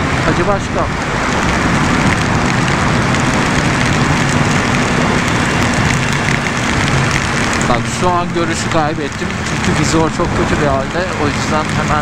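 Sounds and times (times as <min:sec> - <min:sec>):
heavy rain: 0:00.0 - 0:12.0
motorcycle engine drone: 0:00.0 - 0:12.0
raindrops ticking on visor: 0:00.9 - 0:12.0.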